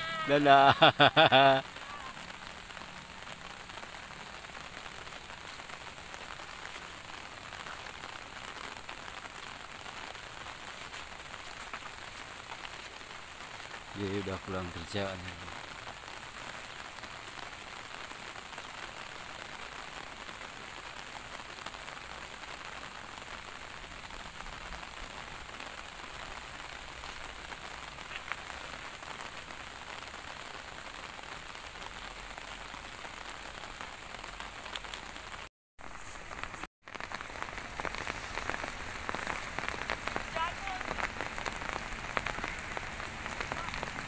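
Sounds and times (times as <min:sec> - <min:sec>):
light rain pattering: 0:00.0 - 0:44.0.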